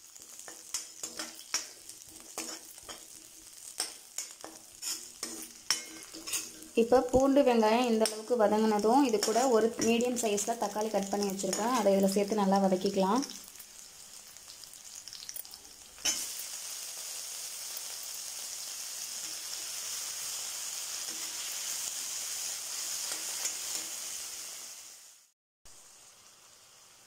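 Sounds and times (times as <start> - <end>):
tomatoes sizzling in hot oil: 0.0 - 27.0.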